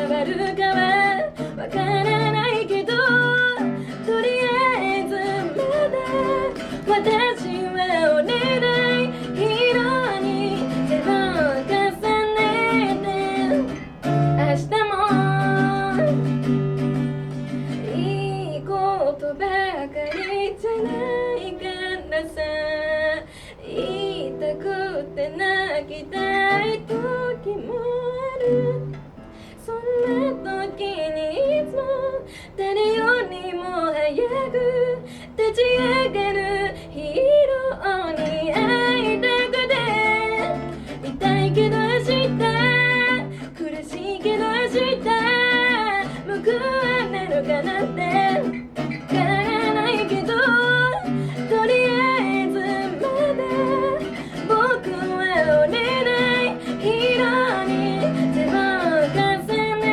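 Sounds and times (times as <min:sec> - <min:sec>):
acoustic guitar strumming: 0:00.0 - 0:59.9
woman singing: 0:00.0 - 0:59.9.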